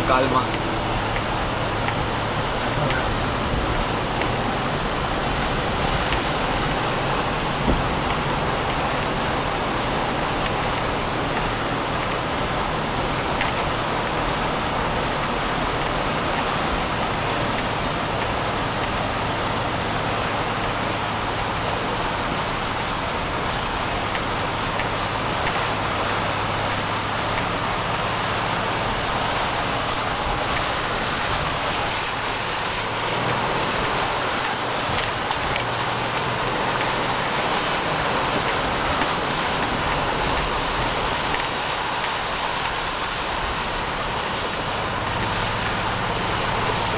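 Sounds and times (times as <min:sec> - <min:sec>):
low engine drone: 0:00.0 - 0:46.9.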